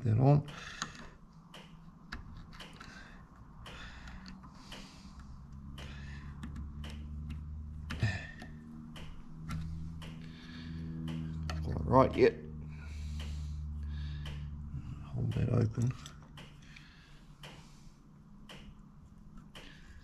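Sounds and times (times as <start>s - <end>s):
low steady hum: 0.0s - 20.0s
small clicks and taps of handwork: 0.4s - 11.8s, 14.0s - 17.8s, 18.4s - 20.0s.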